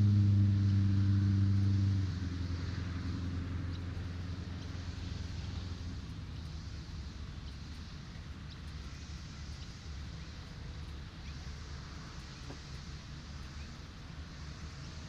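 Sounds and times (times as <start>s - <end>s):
traffic rumble: 0.0s - 15.0s
waves hissing: 0.1s - 15.0s.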